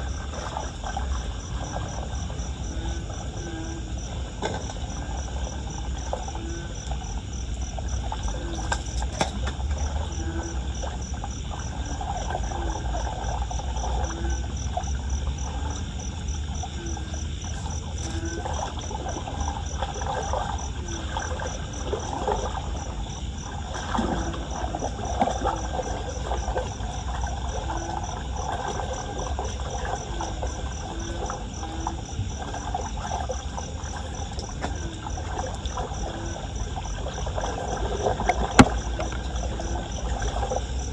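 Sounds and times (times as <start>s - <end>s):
insects chirping: 0.0s - 40.9s
running floodwater: 0.0s - 40.9s.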